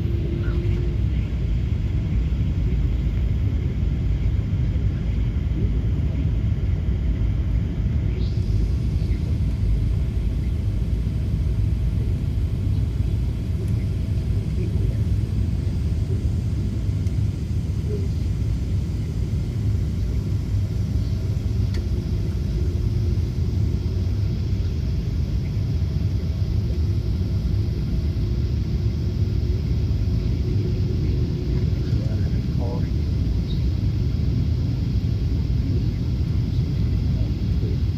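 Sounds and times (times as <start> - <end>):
airliner rumble: 0.0 - 37.9.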